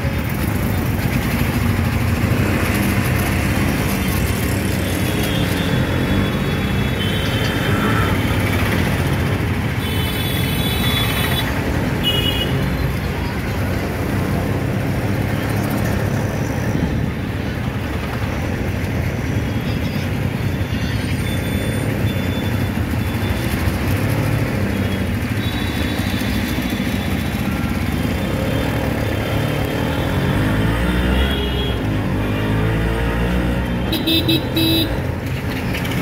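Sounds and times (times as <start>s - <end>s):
auto-rickshaw engine running: 0.0s - 36.0s
passing scooters and motorcycles: 0.0s - 36.0s.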